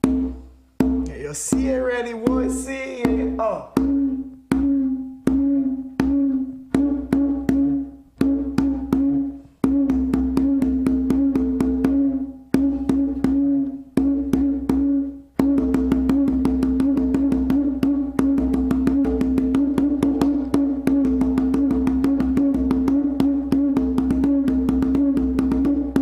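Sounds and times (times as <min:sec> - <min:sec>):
hand drum strokes: 0:00.0 - 0:26.0.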